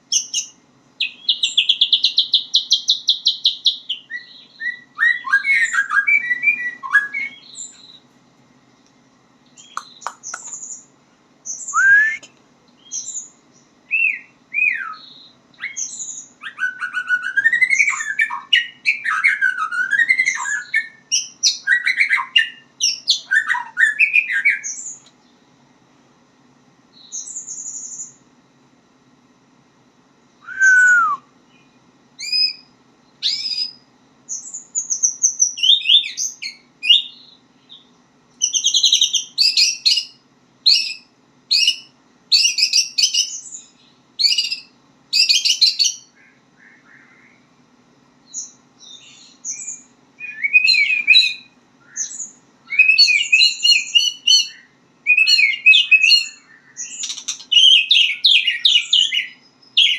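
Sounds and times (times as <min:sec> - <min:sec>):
faint low hum: 0:00.0 - 0:59.9
bird singing whistles and chatter: 0:00.1 - 0:08.0, 0:09.6 - 0:25.0, 0:30.4 - 0:37.8, 0:38.4 - 0:46.1, 0:48.3 - 0:59.9.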